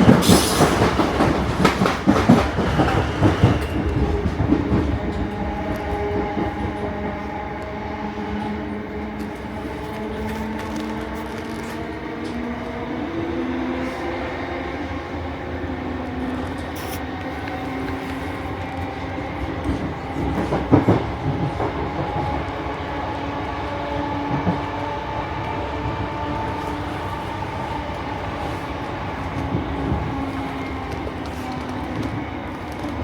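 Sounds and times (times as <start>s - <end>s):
electric train running noise: 0.0s - 33.0s.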